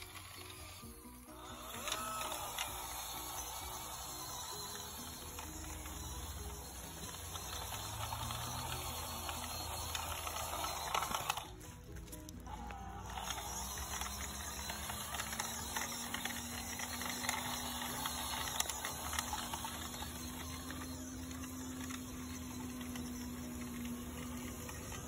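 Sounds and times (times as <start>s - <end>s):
small electric motor whining: 0.0s - 25.0s
tyres crackling on pebbles: 0.0s - 25.0s.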